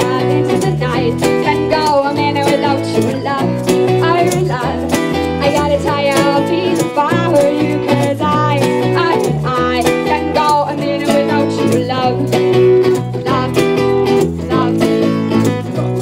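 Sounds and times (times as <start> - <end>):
woman singing: 0.0 - 15.6
bass guitar: 0.0 - 16.0
strummed acoustic guitar: 0.0 - 16.0.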